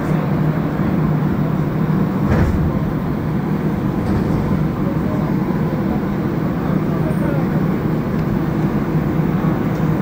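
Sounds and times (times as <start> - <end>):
metro train rumble inside car: 0.0 - 10.0.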